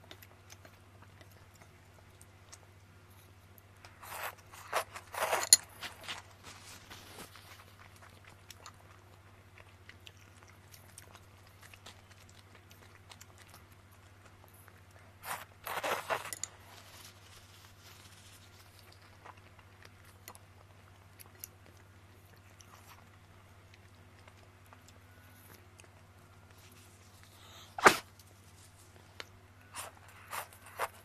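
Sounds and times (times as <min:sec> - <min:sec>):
person chewing: 0:00.0 - 0:31.0.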